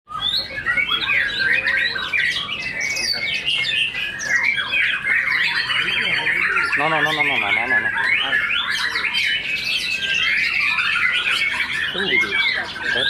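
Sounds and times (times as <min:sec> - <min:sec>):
bird singing whistles and trills: 0:00.1 - 0:13.0.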